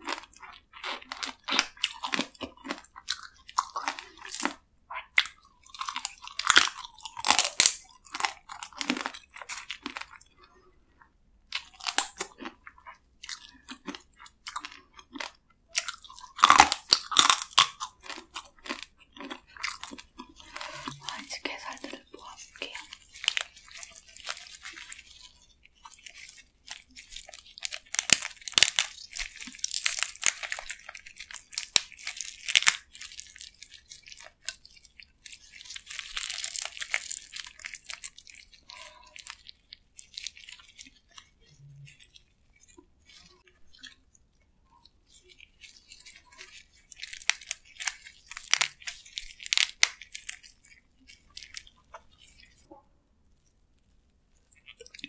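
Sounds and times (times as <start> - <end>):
crab shell crunching: 0.0 - 10.7, 11.5 - 52.7, 54.4 - 55.0
chewing: 0.0 - 55.0.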